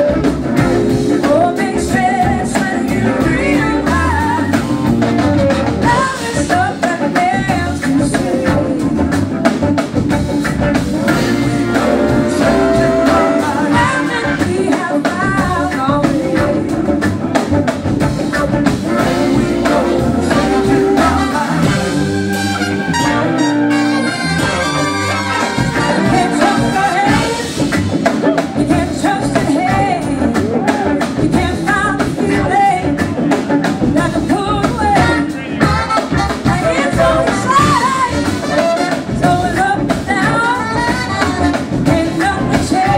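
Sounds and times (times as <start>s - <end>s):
horn section: 0.0s - 15.4s, 16.3s - 28.7s, 34.9s - 42.9s
blues-rock band playing live: 0.0s - 42.9s
drum kit: 0.0s - 42.9s
person singing: 0.8s - 9.9s, 11.0s - 17.5s, 18.9s - 22.3s, 25.7s - 42.9s.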